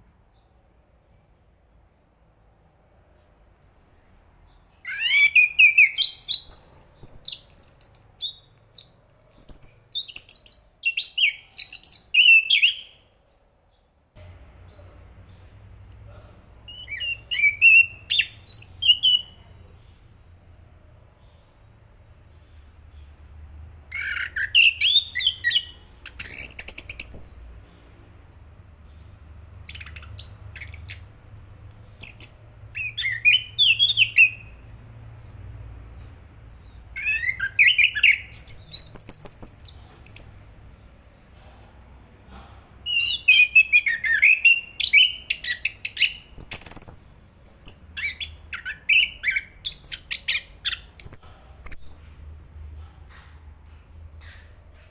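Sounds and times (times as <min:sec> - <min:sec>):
bird singing chirps and warbles: 0:00.0 - 0:28.1, 0:28.8 - 0:41.0, 0:42.8 - 0:52.4.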